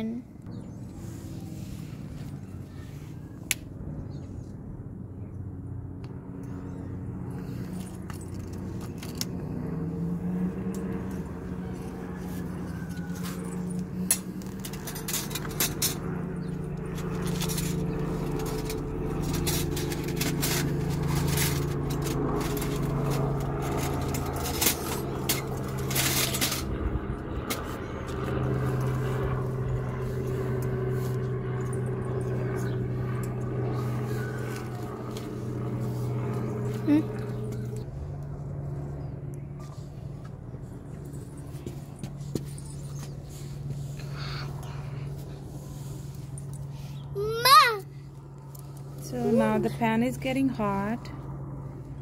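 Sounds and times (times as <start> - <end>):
low mechanical hum: 0.0 - 52.0.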